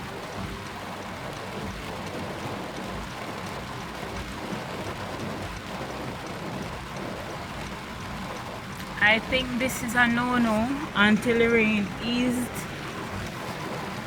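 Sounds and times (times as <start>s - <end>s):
heavy rain on a car: 0.0s - 14.0s.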